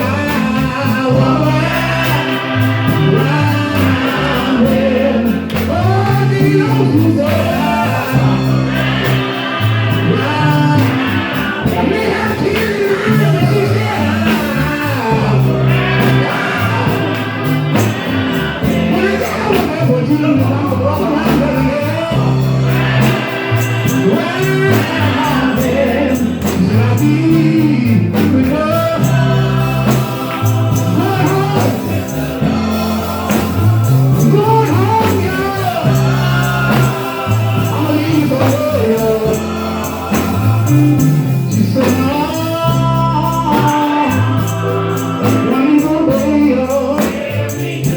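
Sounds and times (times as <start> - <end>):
percussion: 0.0 - 47.9
repeating bass line: 0.0 - 47.9
voices singing: 0.0 - 47.9.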